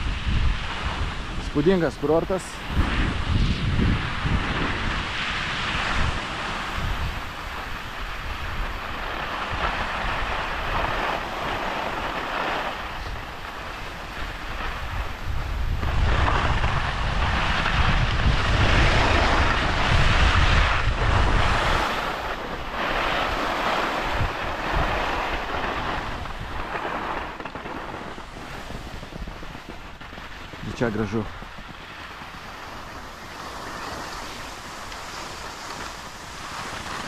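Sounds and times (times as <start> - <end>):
wind rushing over microphone: 0.0 - 37.0
skis scraping over snow: 0.1 - 37.0.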